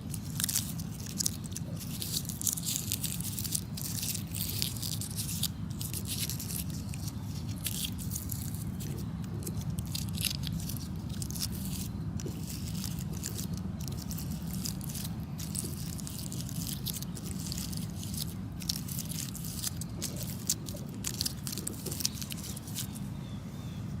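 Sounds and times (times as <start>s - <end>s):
dry petals crackling: 0.0s - 23.0s
low background hum: 0.0s - 24.0s.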